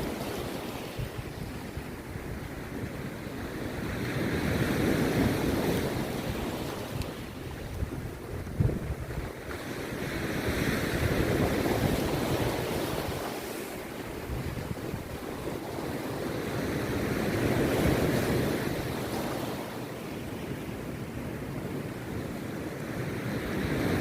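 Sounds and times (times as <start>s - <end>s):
waves breaking on a beach: 0.0s - 24.0s.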